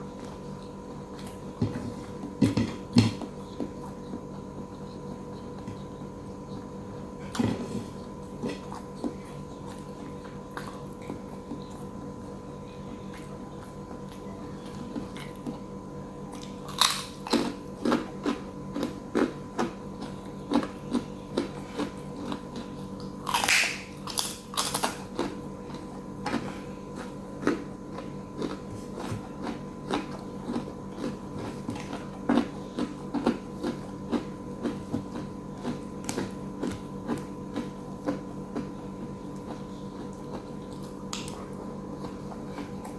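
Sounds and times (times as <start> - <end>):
person chewing food: 0.0 - 15.7, 16.3 - 42.9.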